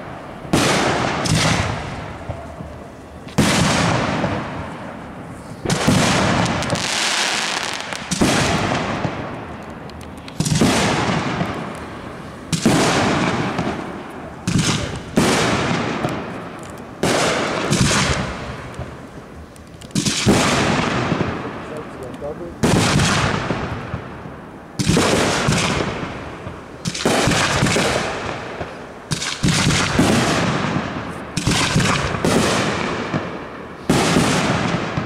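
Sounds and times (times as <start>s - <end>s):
firework shells bursting: 5.6s - 35.0s.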